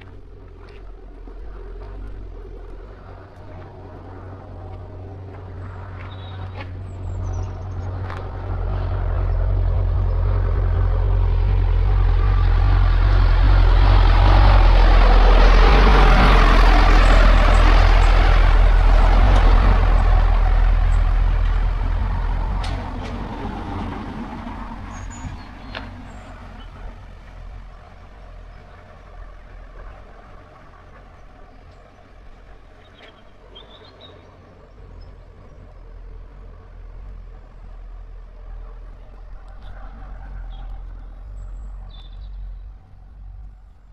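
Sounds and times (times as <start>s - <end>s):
vehicle engine rumble: 0.0s - 43.9s.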